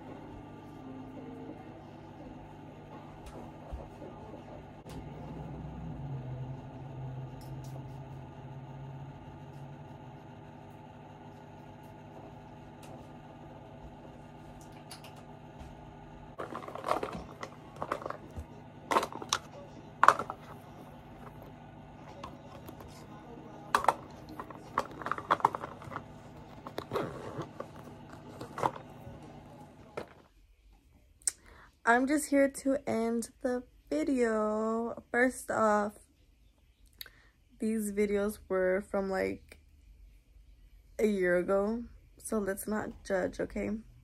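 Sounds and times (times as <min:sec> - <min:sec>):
faint hum: 0:00.0 - 0:44.0.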